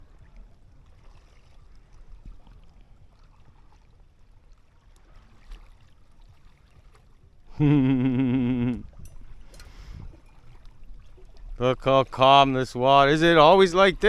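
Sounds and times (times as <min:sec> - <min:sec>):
water lapping: 0:00.0 - 0:14.0.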